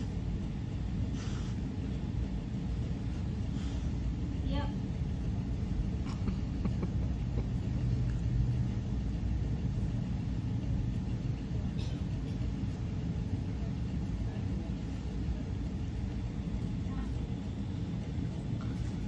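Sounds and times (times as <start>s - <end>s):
low rumble in indoor hall: 0.0s - 19.0s.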